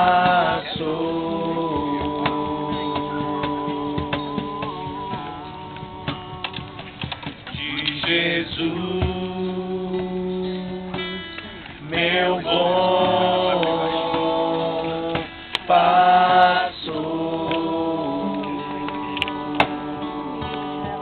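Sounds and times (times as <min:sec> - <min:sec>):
acoustic guitar: 0:00.0 - 0:21.0
people singing a hymn: 0:00.0 - 0:21.0.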